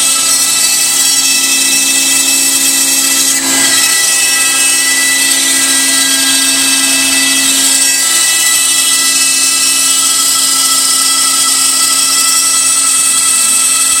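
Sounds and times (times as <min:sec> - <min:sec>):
shop vacuum running: 0:00.0 - 0:13.5
router cutting wood: 0:00.0 - 0:14.0.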